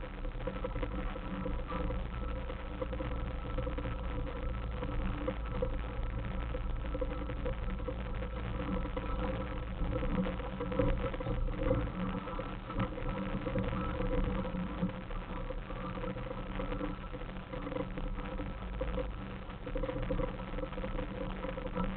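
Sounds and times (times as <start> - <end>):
car engine running at low revs: 0.0 - 21.9.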